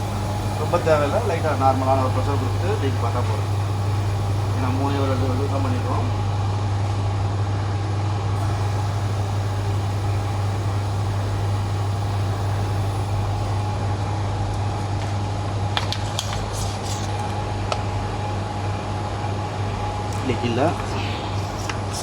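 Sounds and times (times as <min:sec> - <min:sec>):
faint constant whine: 0:00.0 - 0:22.0
machinery hum: 0:00.0 - 0:22.0.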